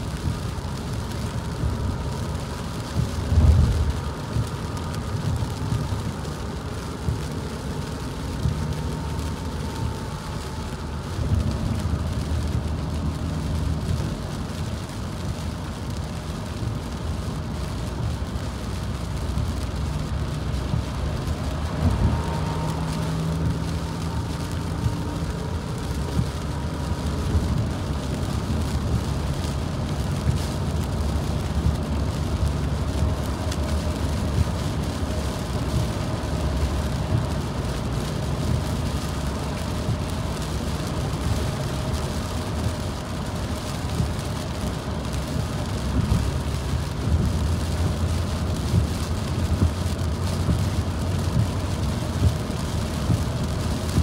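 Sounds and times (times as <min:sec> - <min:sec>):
rain hiss: 0:00.0 - 0:54.0
road and engine rumble: 0:00.0 - 0:54.0.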